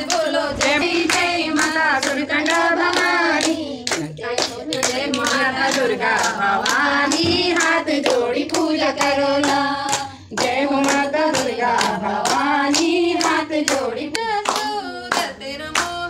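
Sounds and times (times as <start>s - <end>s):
rhythmic hand clapping: 0.0s - 16.0s
women singing devotional song: 0.0s - 16.0s.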